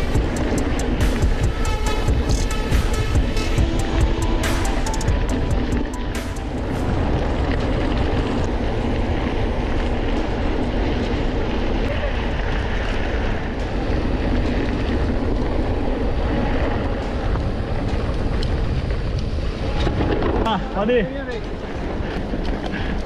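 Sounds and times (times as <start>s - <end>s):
bike tyres rumbling on dirt: 0.0s - 23.0s
wind buffeting microphone: 0.0s - 23.0s.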